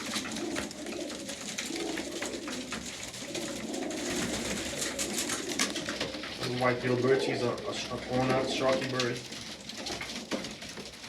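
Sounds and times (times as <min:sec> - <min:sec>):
beaks pecking at feed: 0:00.0 - 0:11.0
pigeons cooing: 0:00.0 - 0:11.0.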